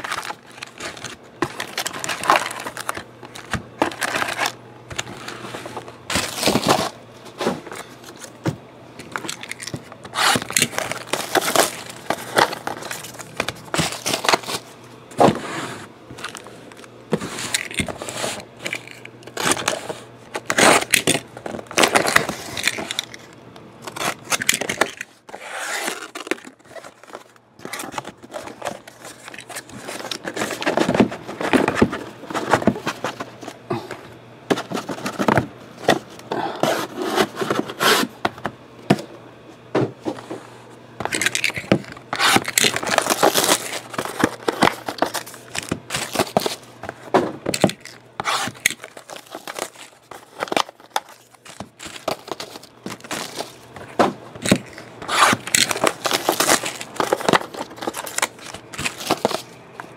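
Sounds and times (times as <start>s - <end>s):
cardboard and foil crinkling: 0.0s - 33.7s, 34.5s - 38.1s, 41.0s - 59.9s.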